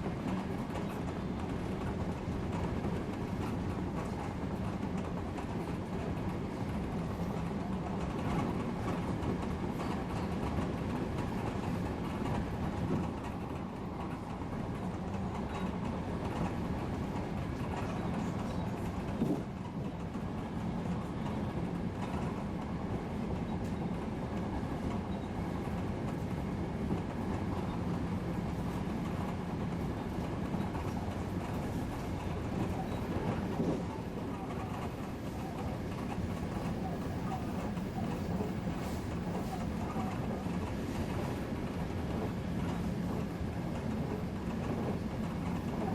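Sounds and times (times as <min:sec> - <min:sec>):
rail joint click: 0:00.0 - 0:45.9
train wheels rolling on rail: 0:00.0 - 0:45.9.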